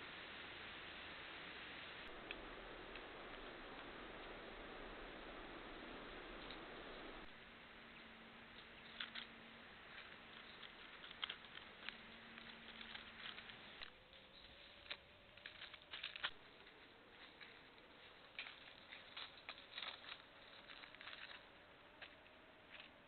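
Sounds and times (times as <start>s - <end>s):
low steady hum: 0.0s - 23.0s
dry leaves crackling: 2.0s - 23.0s.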